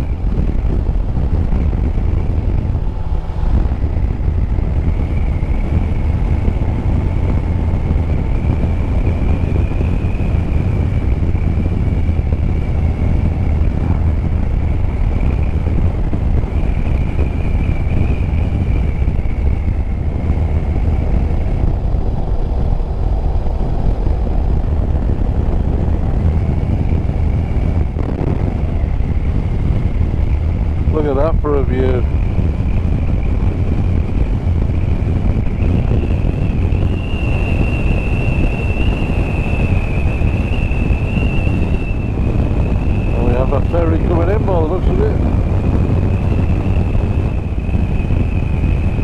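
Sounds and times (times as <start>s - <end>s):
motorcycle engine and wind rush: 0.0s - 49.0s.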